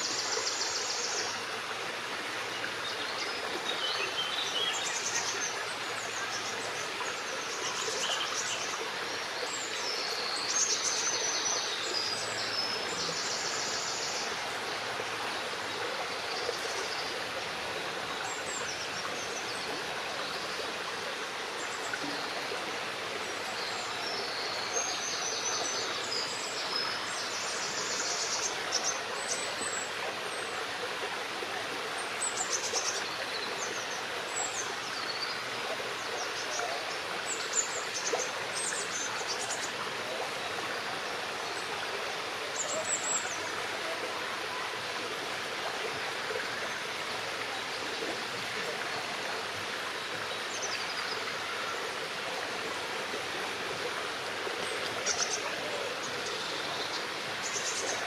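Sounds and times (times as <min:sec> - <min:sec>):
brook water rushing: 0:00.0 - 0:58.0.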